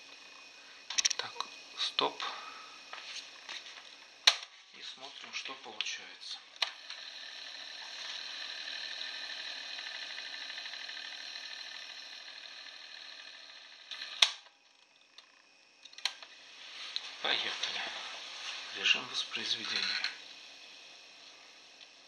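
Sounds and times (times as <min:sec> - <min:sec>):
tape winding whir: 0:00.0 - 0:22.0.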